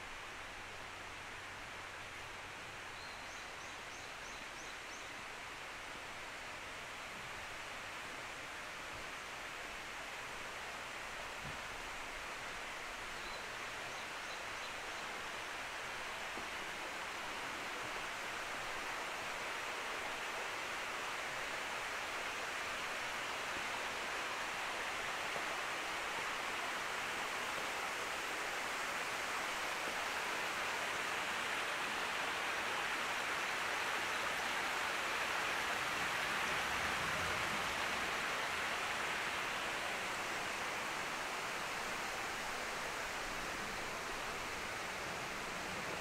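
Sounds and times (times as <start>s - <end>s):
running water rushing: 4.5s - 46.0s.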